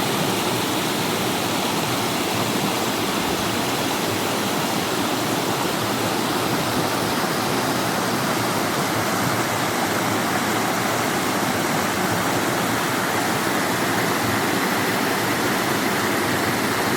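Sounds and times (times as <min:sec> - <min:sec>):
rushing water: 0:00.0 - 0:16.9.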